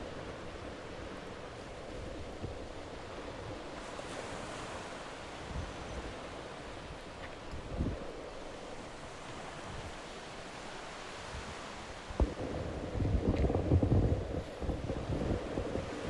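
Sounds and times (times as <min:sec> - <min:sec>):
water lapping: 0:00.0 - 0:16.0
wind: 0:00.0 - 0:16.0
wind buffeting microphone: 0:00.0 - 0:16.0.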